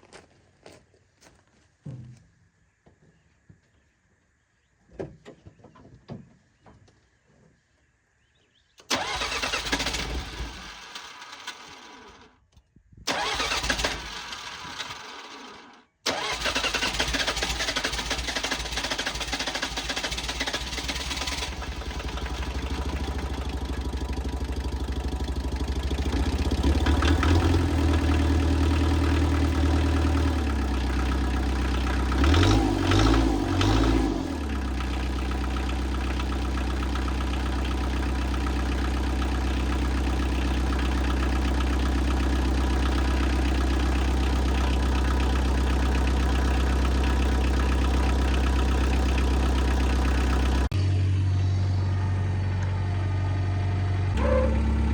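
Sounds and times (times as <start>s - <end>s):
diesel engine revving and idling: 8.9s - 12.3s, 13.1s - 54.9s.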